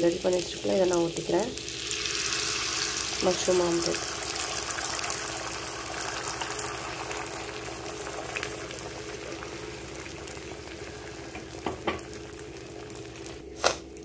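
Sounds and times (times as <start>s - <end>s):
batter sizzling in butter: 0.1s - 13.6s.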